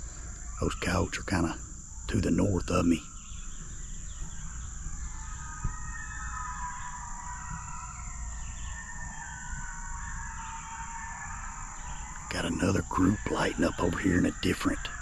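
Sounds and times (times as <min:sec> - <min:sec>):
distant coyotes howling: 0:00.0 - 0:15.0
insects droning: 0:00.0 - 0:15.0.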